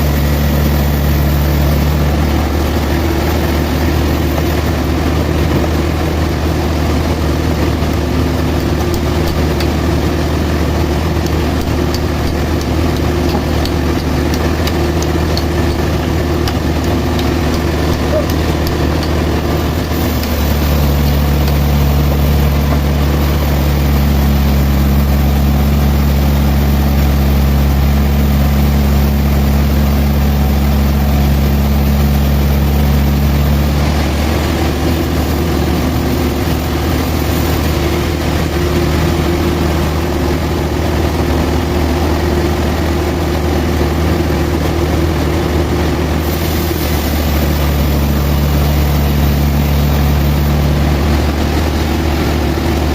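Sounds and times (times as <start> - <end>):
sawmill engine running: 0.0 - 52.9.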